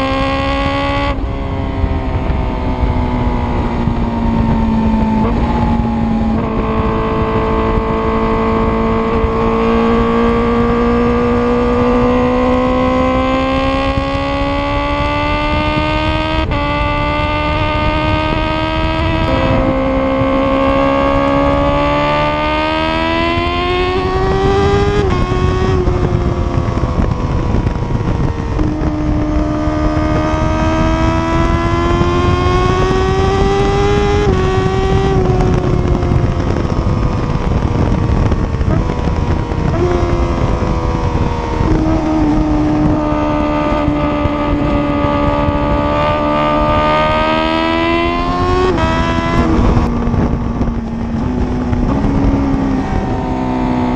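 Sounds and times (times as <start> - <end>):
motorcycle engine shifting gears: 0.0 - 53.9.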